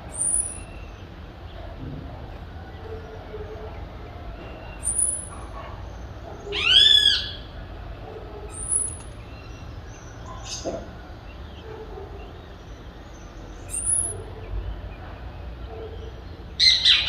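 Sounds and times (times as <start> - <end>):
background city hum: 0.0 - 17.0
birds calling: 0.0 - 17.0.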